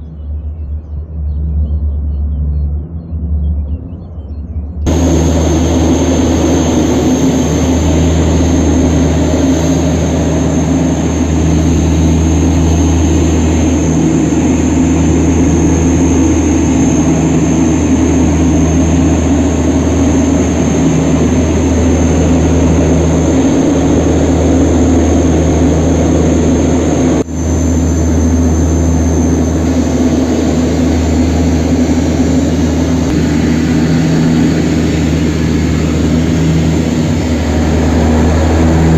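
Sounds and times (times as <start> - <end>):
aircraft engines droning: 0.0 - 38.9.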